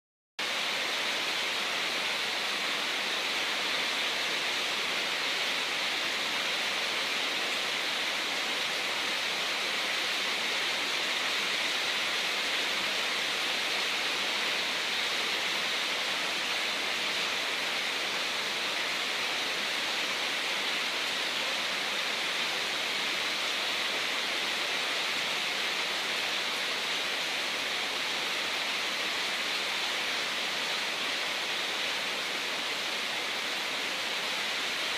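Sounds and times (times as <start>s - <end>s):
hiss of running water: 0.4s - 34.9s.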